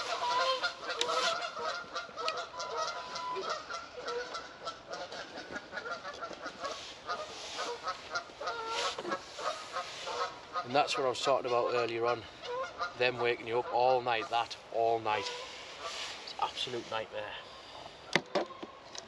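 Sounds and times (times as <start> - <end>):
geese honking: 0.0 - 18.8.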